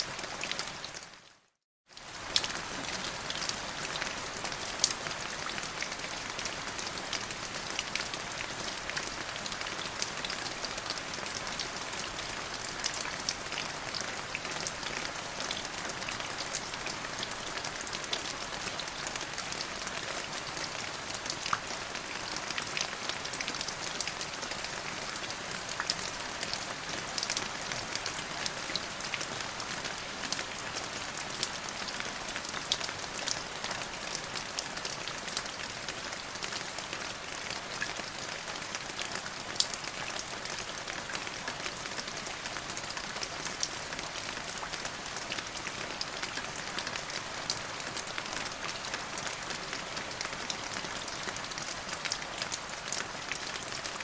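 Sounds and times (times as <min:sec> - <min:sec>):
rain drops ticking on hard surface: 0:01.9 - 0:54.0.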